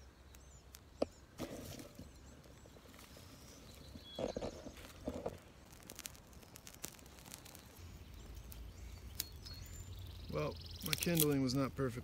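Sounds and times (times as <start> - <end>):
twigs rustling: 0.0 - 12.0
twigs snapping and clicking: 0.2 - 11.7.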